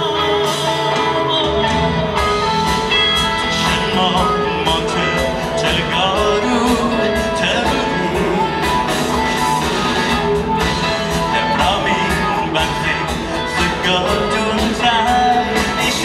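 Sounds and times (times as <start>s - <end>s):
lead vocal singing: 0.0s - 16.0s
live pop-rock band: 0.0s - 16.0s.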